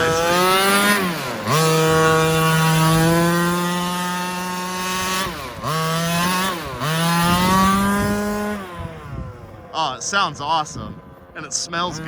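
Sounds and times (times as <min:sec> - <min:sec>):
small two-stroke engine revving: 0:00.0 - 0:12.0.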